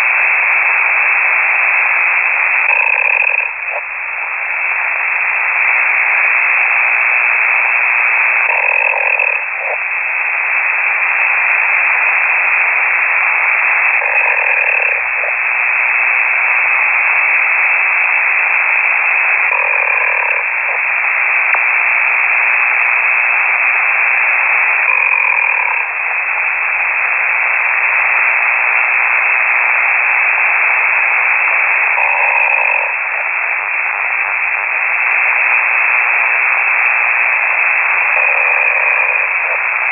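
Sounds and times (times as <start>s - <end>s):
radio hiss: 0.0s - 39.9s
snoring over radio: 0.0s - 39.9s.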